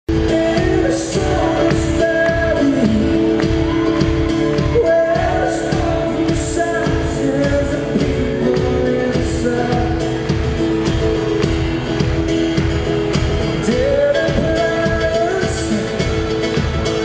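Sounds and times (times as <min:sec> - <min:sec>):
person singing: 0:00.1 - 0:11.6, 0:13.2 - 0:17.0
strummed acoustic guitar: 0:00.1 - 0:17.0.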